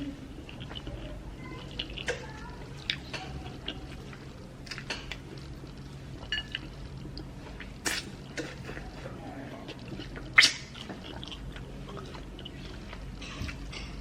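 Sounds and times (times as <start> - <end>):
steady low hum: 0.0 - 14.0
wet eating squishes and smacks: 0.3 - 14.0.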